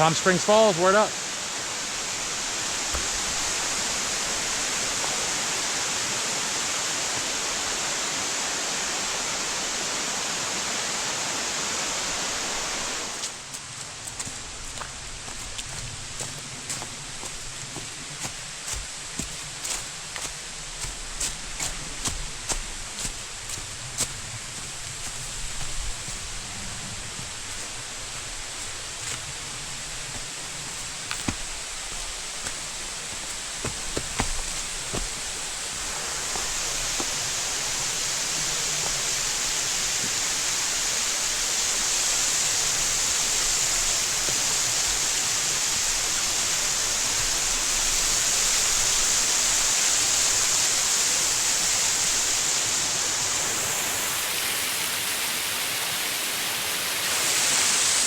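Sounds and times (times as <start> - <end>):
waterfall rushing: 0.0 - 13.5, 17.2 - 58.0.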